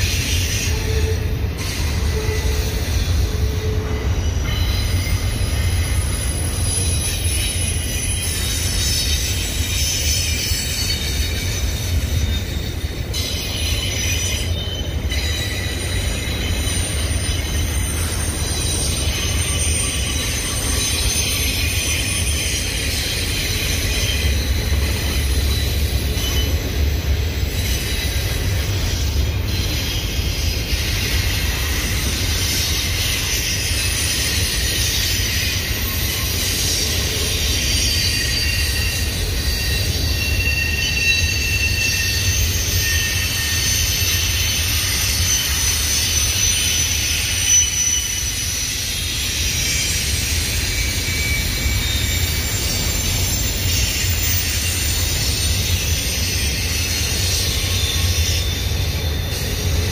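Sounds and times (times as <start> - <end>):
high-pitched wheel squeals: 0.0 - 59.9
train rolling past rumbling: 0.0 - 59.9.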